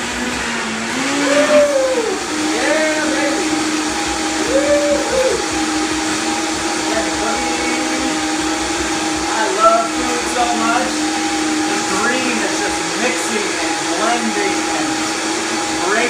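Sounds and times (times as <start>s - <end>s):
blender motor whirring: 0.0s - 16.0s.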